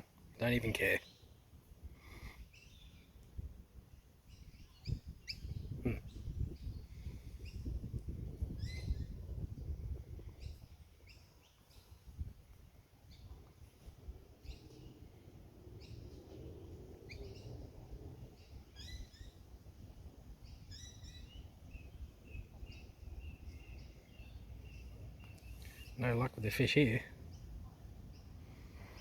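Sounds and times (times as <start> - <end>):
birds calling: 0.0 - 3.2, 3.9 - 29.0
wind rumble on microphone: 1.8 - 25.3.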